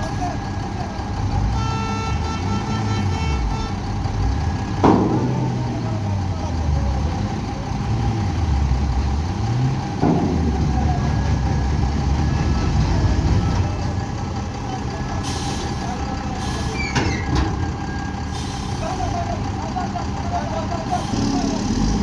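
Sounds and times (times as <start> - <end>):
diesel machinery running: 0.0 - 22.0.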